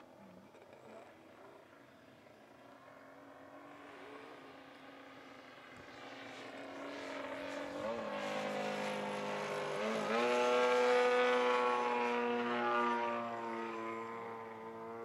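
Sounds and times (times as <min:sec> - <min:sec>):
model plane engine flying overhead: 0:00.0 - 0:15.0.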